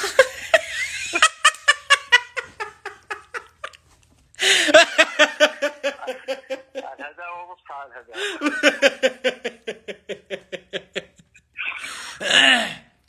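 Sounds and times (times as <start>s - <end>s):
person laughing: 0.0s - 3.8s, 4.4s - 7.0s, 8.1s - 12.3s.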